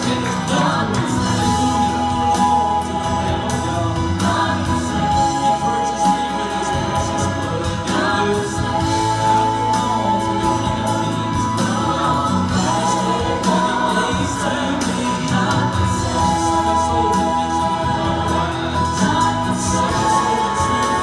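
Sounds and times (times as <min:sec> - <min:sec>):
choir-like backing vocals: 0:00.0 - 0:21.0
man singing into microphone: 0:00.0 - 0:21.0.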